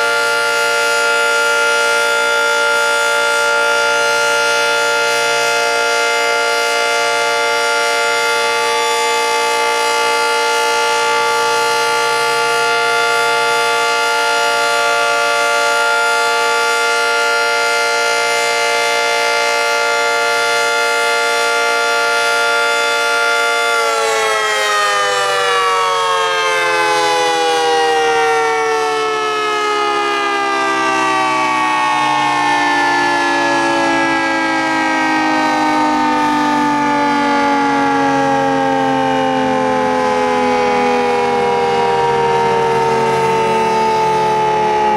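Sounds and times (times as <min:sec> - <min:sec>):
dual-tone warning siren: 0:00.0 - 0:44.9.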